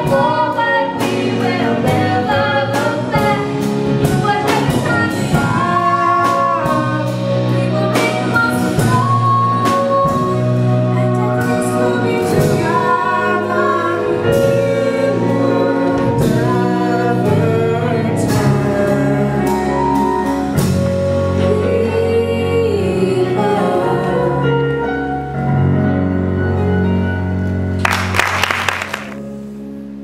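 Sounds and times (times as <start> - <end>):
singing with accompaniment: 0.0 - 25.6.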